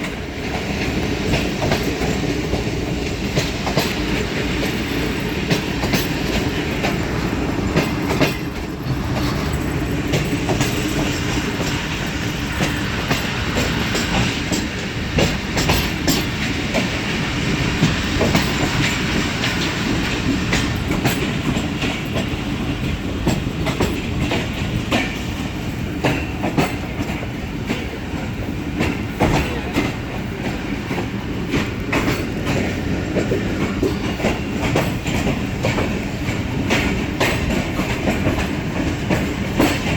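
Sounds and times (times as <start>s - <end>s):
train wheels rumbling on track: 0.0s - 39.9s
wheels clicking over rail joints: 0.0s - 39.9s.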